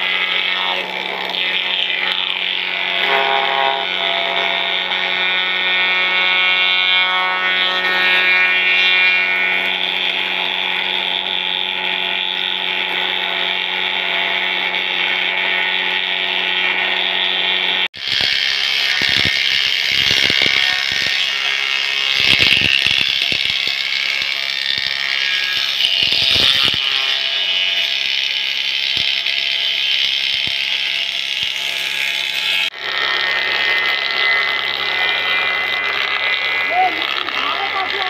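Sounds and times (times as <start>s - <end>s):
cutter head shaving boards: 0.0s - 38.0s
wood planing machine humming: 0.0s - 38.0s.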